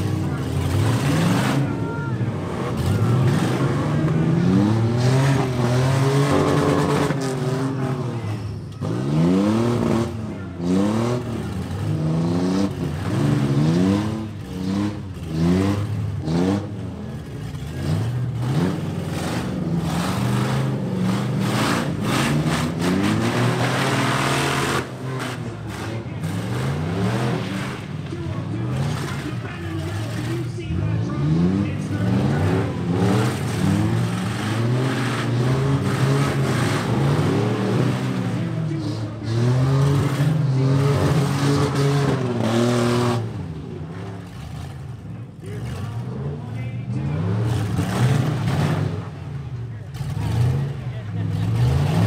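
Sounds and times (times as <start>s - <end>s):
truck engines revving hard: 0.0s - 52.0s.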